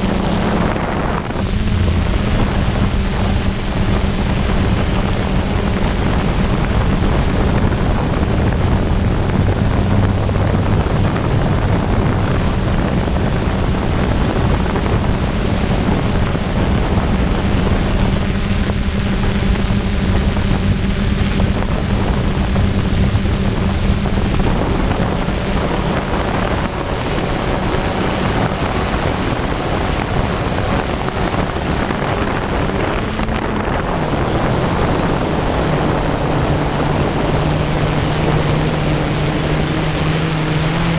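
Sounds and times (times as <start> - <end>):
drone motors and propellers droning: 0.0 - 40.9
wind noise: 0.0 - 40.9.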